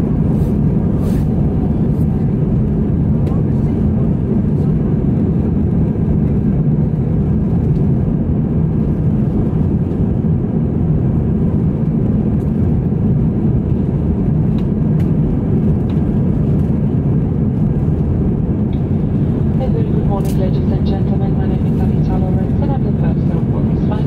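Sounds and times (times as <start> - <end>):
jet engines rumbling: 0.0 - 24.0
rushing airflow: 0.0 - 24.0.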